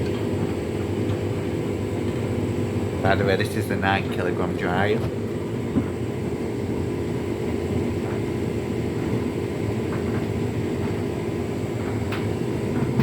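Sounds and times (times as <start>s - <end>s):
tumble dryer running: 0.0s - 13.0s.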